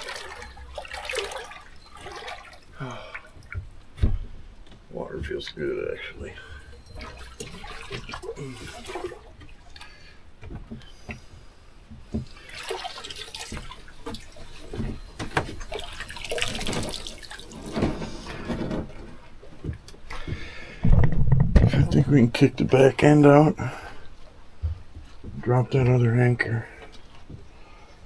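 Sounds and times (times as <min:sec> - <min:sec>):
water splashing and sloshing: 0:00.0 - 0:27.8.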